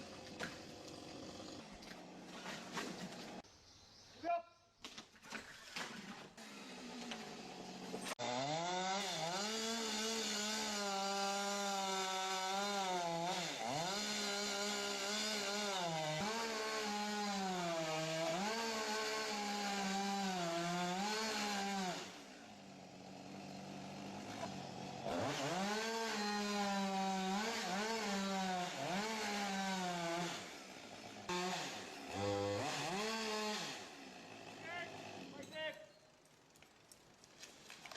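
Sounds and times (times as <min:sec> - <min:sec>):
chainsaw engine cutting: 0:00.0 - 0:03.4, 0:06.4 - 0:35.7.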